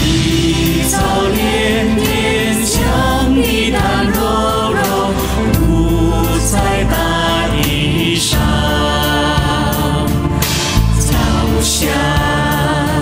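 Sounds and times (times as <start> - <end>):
song with sung vocals: 0.0 - 13.0.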